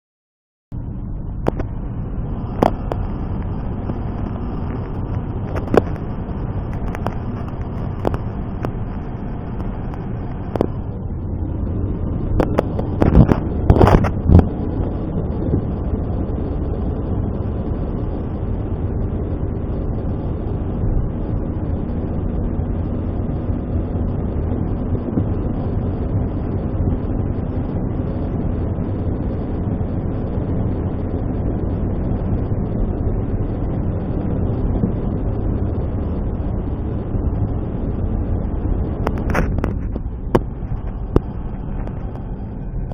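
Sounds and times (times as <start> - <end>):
car driving on highway: 0.7 - 42.9.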